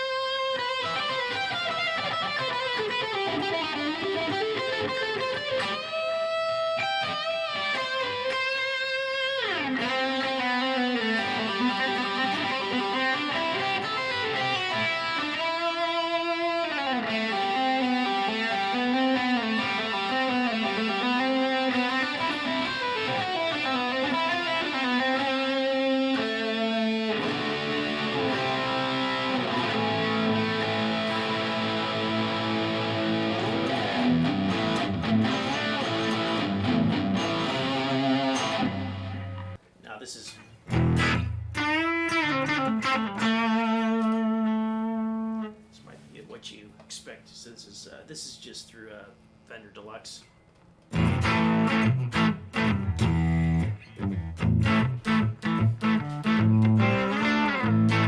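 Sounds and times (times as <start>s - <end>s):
electric guitar playing: 0.0s - 39.6s, 40.6s - 45.7s, 50.9s - 58.0s.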